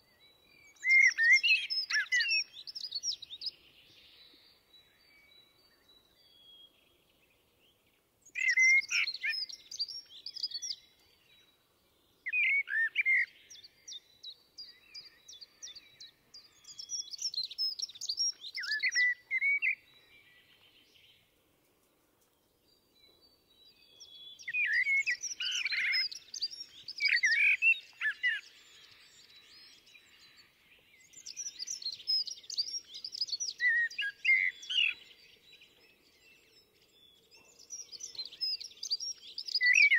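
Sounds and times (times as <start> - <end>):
blackbird singing: 0.0 - 21.3, 22.7 - 39.9.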